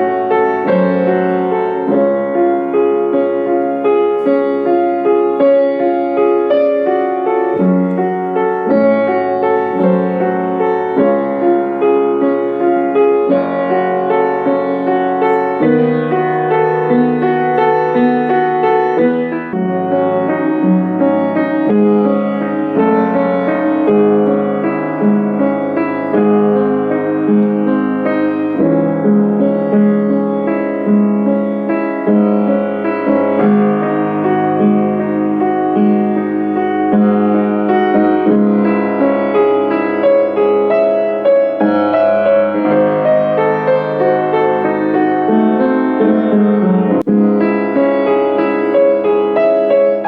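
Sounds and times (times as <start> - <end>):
slow gentle piano piece: 0.0 - 50.0.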